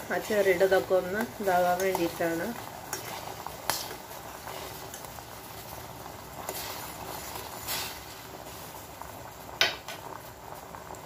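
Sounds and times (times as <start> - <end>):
syrup boiling with bubbling: 0.0 - 11.0.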